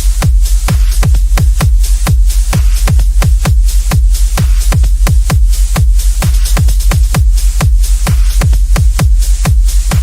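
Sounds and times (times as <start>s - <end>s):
deep bass: 0.0s - 10.0s
electronic dance music: 0.0s - 10.0s
heavy bass kicks: 0.0s - 10.0s.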